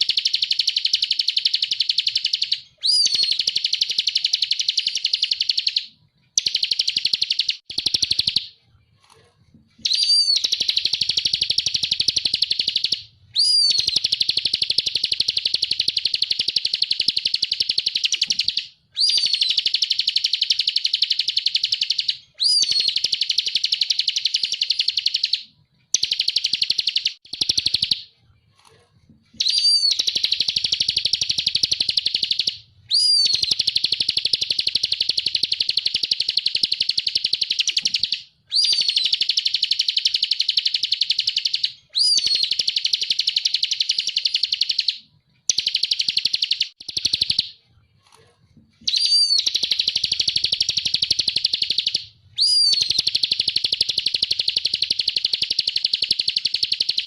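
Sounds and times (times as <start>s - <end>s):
bird singing buzzy trills: 0.0s - 8.5s, 9.8s - 25.4s, 29.4s - 44.9s, 48.9s - 57.0s.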